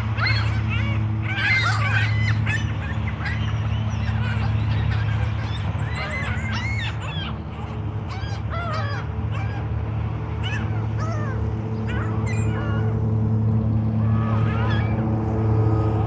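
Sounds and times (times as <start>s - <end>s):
birds chirping and squawking: 0.0s - 16.0s
steady low hum: 0.0s - 16.0s.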